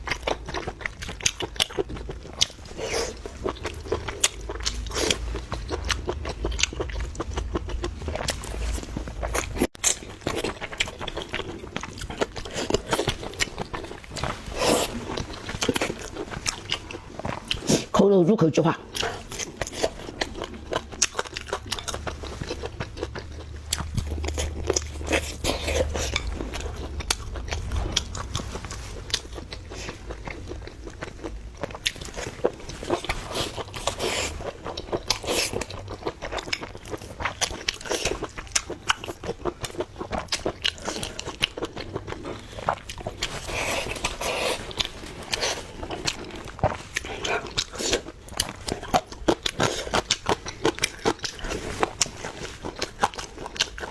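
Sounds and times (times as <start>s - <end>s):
person chewing and smacking: 0.0s - 18.0s, 18.7s - 53.9s.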